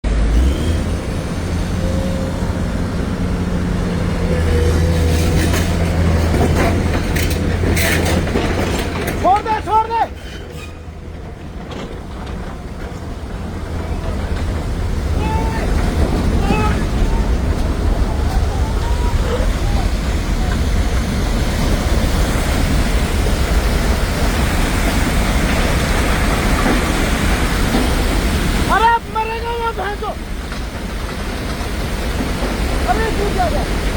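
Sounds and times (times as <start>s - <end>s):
river torrent roaring: 0.1s - 33.9s.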